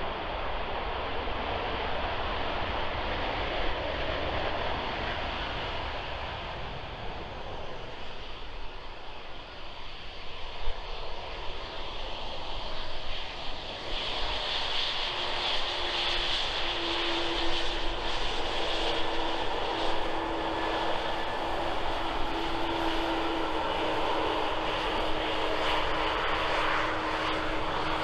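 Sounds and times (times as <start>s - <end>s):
jet engine rush: 0.0s - 28.0s
steady low jet whine: 3.8s - 28.0s.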